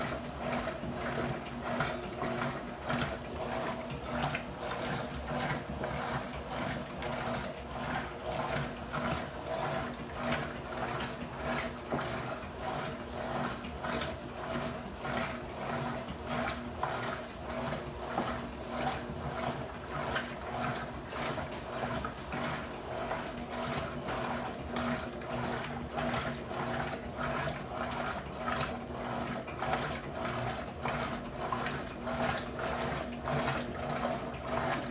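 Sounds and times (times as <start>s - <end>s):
washing machine hum: 0.0s - 34.9s.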